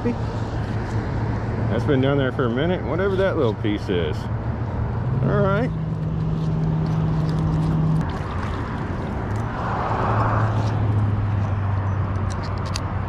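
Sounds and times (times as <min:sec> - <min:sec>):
low engine hum: 0:00.0 - 0:13.0
lower engine hum: 0:00.0 - 0:13.0.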